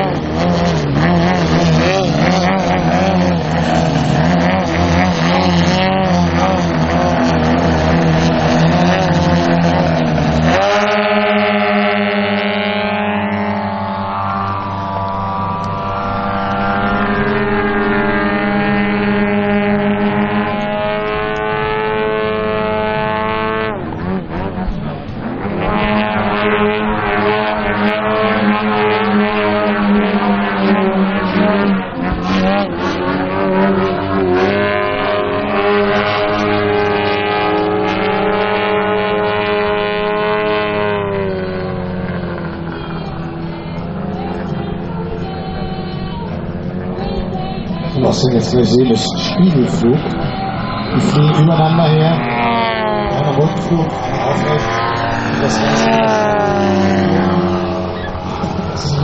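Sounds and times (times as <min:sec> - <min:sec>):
model plane engines: 0:00.0 - 0:59.0.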